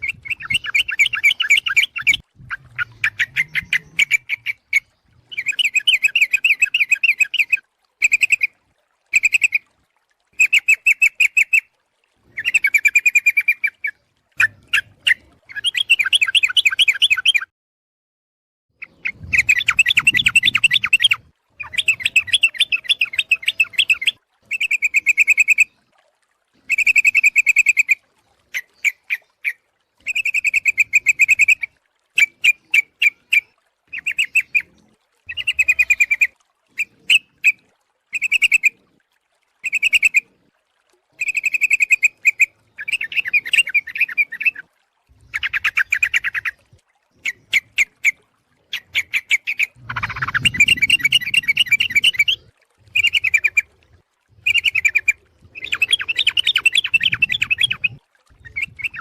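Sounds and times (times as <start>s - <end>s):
bird bubbly chattering calls: 0.0s - 9.6s, 12.3s - 17.5s, 18.8s - 25.7s, 26.7s - 38.8s, 39.6s - 40.2s, 41.1s - 53.8s, 54.4s - 59.0s.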